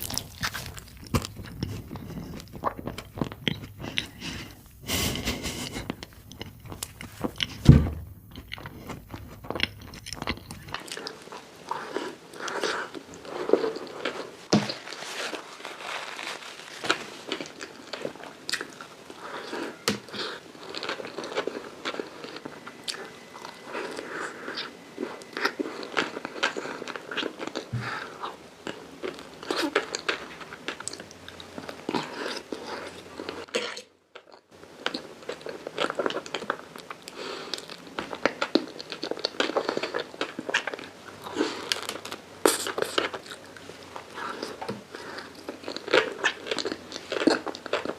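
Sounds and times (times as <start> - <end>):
biting and crunching food: 0.0 - 4.6, 5.2 - 47.9.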